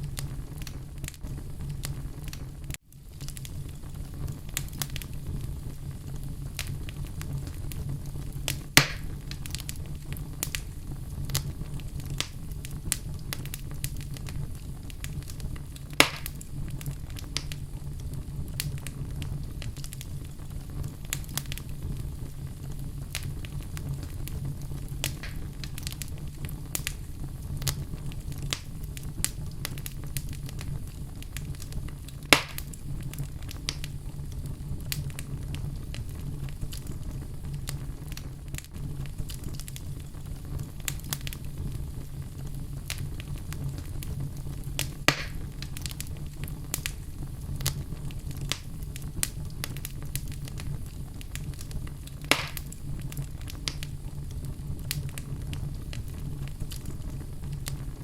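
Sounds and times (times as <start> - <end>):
sharp fire pops: 0.0 - 58.0
wood fire crackling: 0.0 - 58.0.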